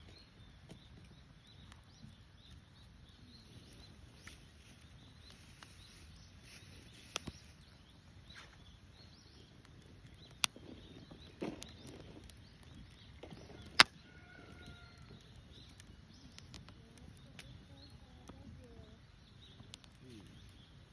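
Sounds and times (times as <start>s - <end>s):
burning wood popping: 0.0s - 20.9s
campfire crackling: 0.0s - 20.9s
small birds chirping: 0.0s - 20.9s.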